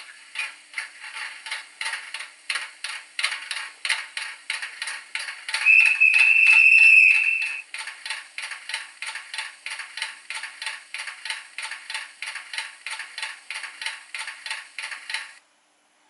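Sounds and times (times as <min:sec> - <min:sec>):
rhythmic train clatter: 0:00.0 - 0:15.4.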